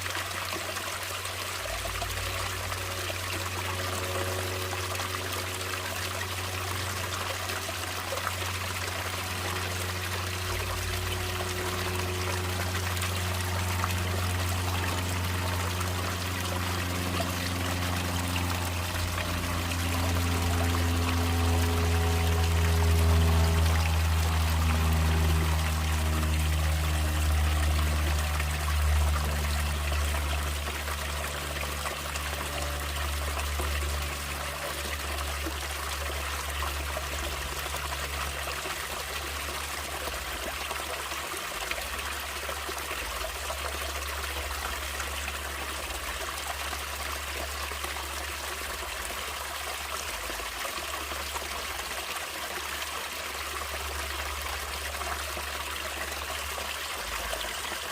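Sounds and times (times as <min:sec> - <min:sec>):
low sustained tones: 0:00.0 - 0:51.8
stream water trickling: 0:00.0 - 0:57.9.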